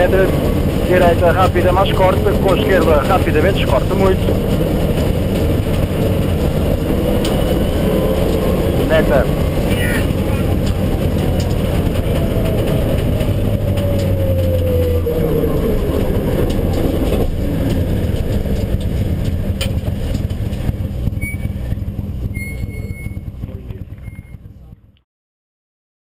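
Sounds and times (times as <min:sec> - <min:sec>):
falling whine: 0:00.0 - 0:24.6
rally car engine running hard: 0:00.0 - 0:25.0
road noise: 0:00.0 - 0:25.0.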